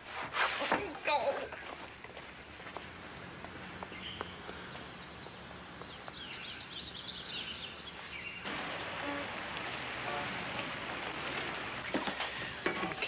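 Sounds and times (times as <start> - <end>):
outdoor ambience: 0.0 - 13.0
street noise: 0.0 - 13.0
birds chirping: 1.5 - 13.0.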